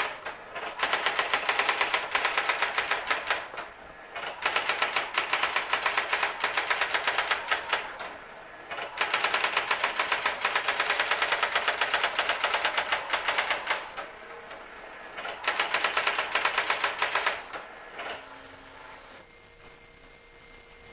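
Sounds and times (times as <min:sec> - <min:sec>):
electronic typewriter printing: 0:00.0 - 0:18.4.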